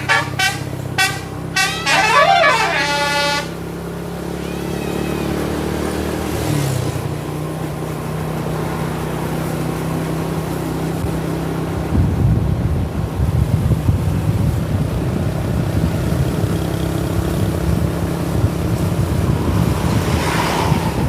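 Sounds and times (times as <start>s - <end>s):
rough engine rumble: 0.0s - 21.0s
vehicle engine humming: 0.0s - 21.0s.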